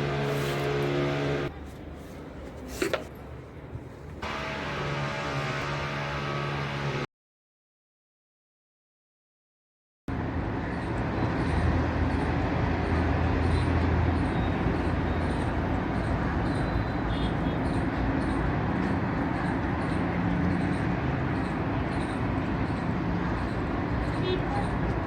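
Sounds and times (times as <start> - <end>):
traffic rumble: 0.0 - 7.0, 10.1 - 25.0.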